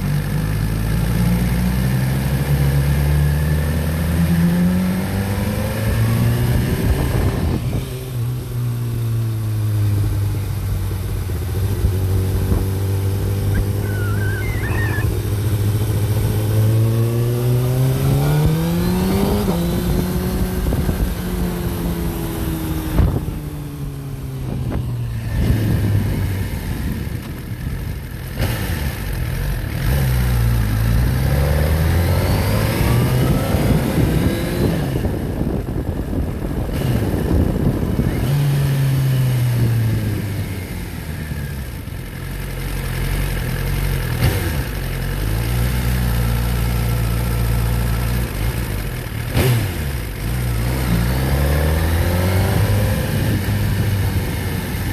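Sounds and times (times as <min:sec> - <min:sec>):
motorcycle engine running: 0:00.0 - 0:54.9
wind and road noise: 0:00.0 - 0:54.9.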